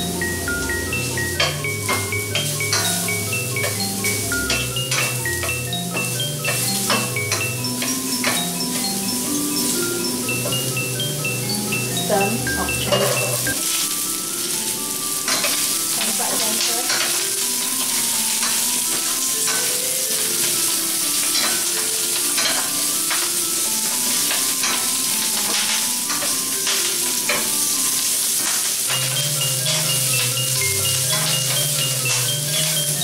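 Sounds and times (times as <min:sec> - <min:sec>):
vegetables sizzling in hot oil: 0:00.0 - 0:33.0.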